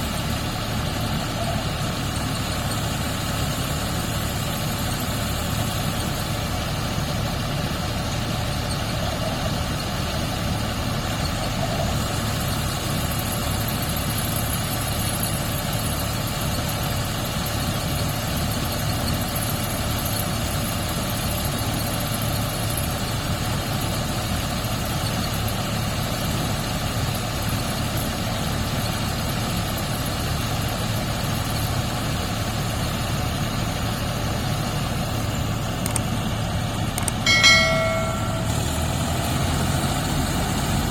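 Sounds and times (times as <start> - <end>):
farm machine engine humming: 0.0 - 40.9.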